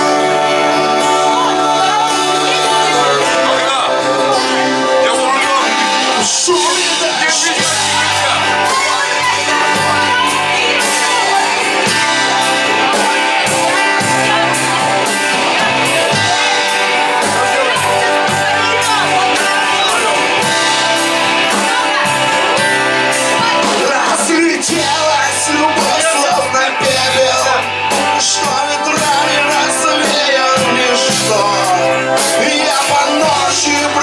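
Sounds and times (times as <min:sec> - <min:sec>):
rock band music: 0:00.0 - 0:34.0.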